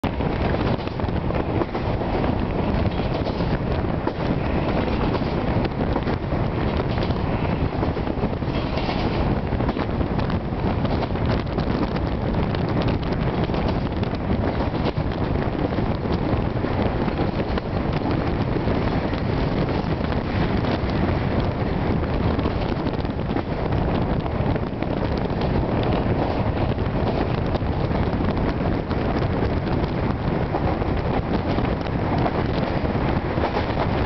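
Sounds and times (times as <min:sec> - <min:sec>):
train running on rails: 0:00.0 - 0:34.0
wind rushing over microphone: 0:00.0 - 0:34.0.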